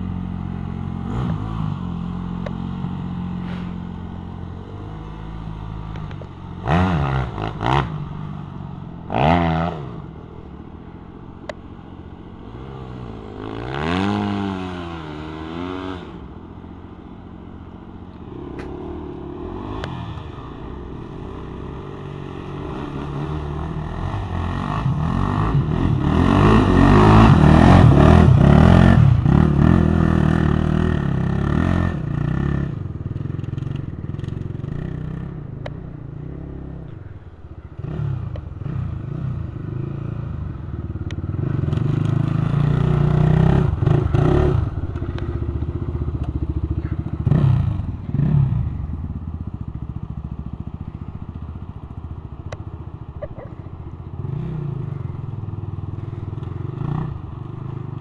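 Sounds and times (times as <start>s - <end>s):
quad bike engine revving: 0.0s - 11.1s, 11.9s - 37.0s, 37.7s - 58.0s.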